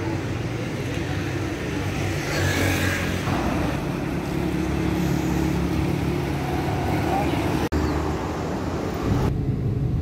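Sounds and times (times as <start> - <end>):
road traffic engines humming: 0.0 - 10.0.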